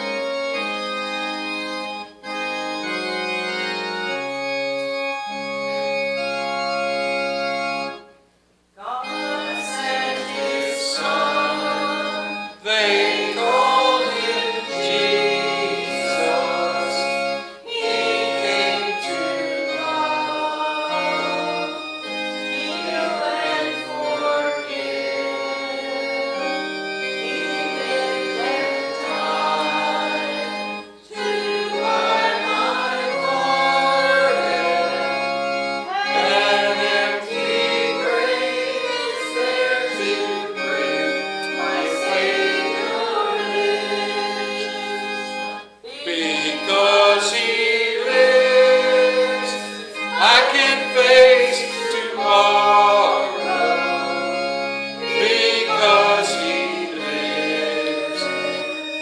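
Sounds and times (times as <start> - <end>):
congregation singing a hymn: 0.0 - 8.0, 8.8 - 59.0
instrumental accompaniment: 0.0 - 59.0.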